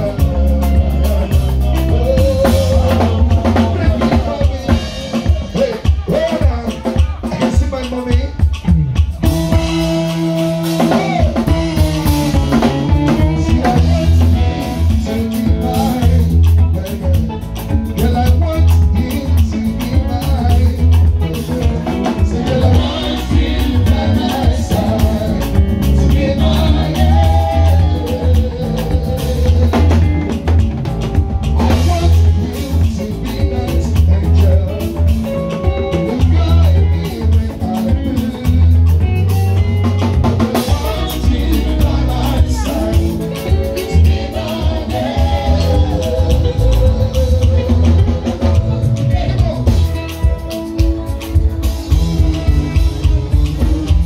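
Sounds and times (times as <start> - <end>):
drum kit beat: 0.0 - 54.0
heavy bass line: 0.0 - 54.0
man singing lead vocals: 0.0 - 54.0.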